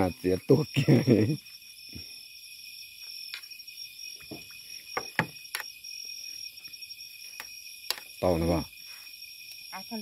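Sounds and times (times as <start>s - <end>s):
night insects chirping: 0.0s - 10.0s.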